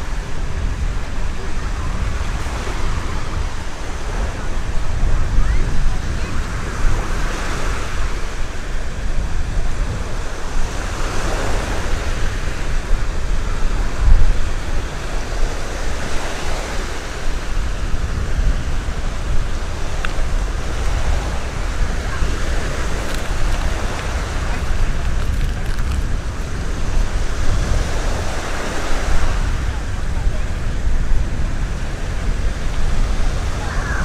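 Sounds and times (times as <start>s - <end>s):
surf breaking on beach: 0.0s - 34.0s
wind rumbling on microphone: 0.0s - 34.0s.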